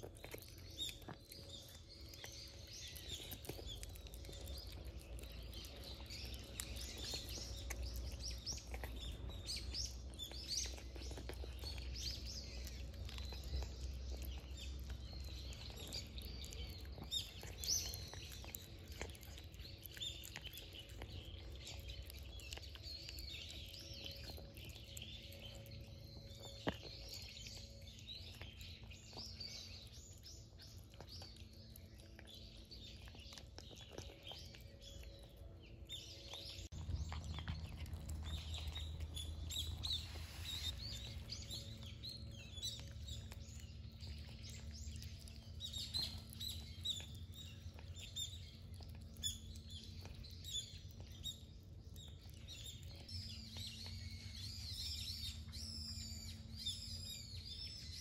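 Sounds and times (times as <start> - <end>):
faint low hum: 0.0 - 58.0
small birds chirping: 0.0 - 58.0.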